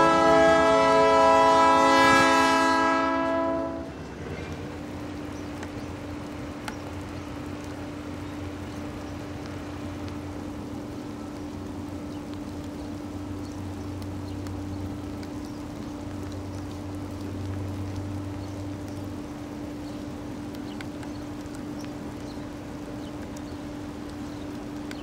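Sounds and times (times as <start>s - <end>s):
rain ticking on plastic: 0.0s - 25.0s.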